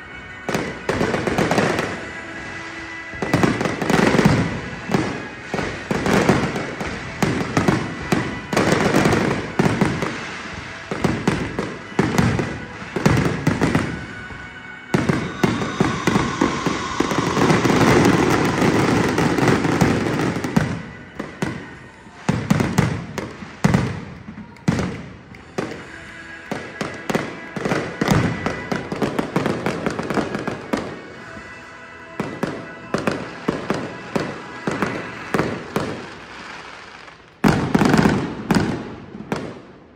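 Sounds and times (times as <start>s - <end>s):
fireworks bursts and bangs: 0.0s - 39.9s
fireworks crackling: 0.0s - 39.9s.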